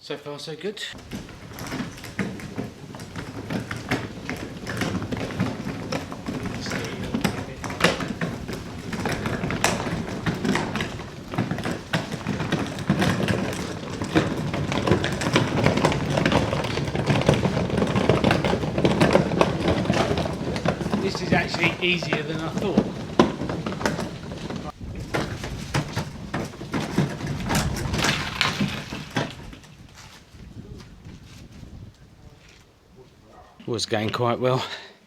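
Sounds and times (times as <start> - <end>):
trolley wheels rumbling over rough ground: 0.9 - 34.6
clicks knocks and rattles: 1.0 - 29.8.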